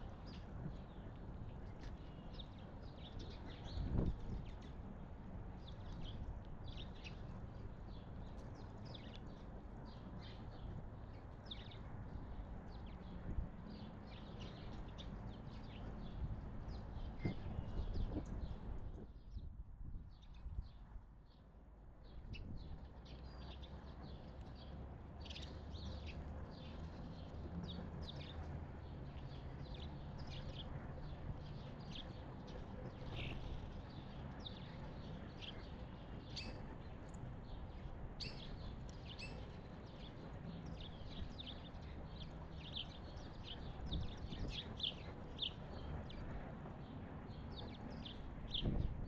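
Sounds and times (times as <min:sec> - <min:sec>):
songbirds chirping: 0:00.0 - 0:19.5, 0:20.1 - 0:49.0.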